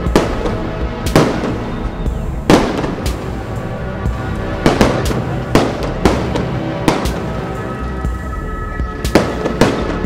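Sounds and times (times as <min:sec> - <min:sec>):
fireworks bangs: 0:00.0 - 0:07.6, 0:09.0 - 0:10.0.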